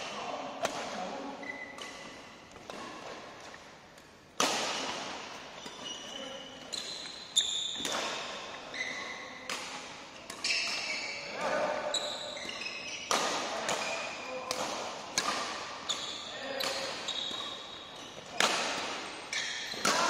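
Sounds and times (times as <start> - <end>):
shoes squeaking on court floor: 0.0 - 3.8, 4.8 - 20.0
rackets striking a shuttlecock: 0.6 - 8.6, 9.4 - 11.6, 12.3 - 20.0.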